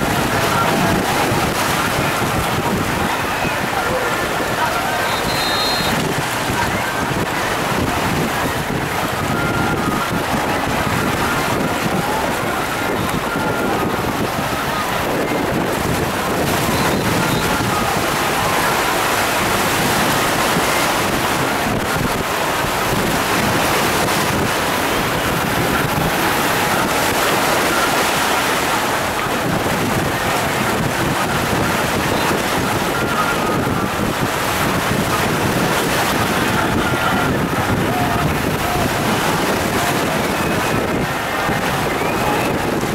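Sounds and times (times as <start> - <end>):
sea waves breaking: 0.0 - 42.9
wind noise on microphone: 0.0 - 42.9.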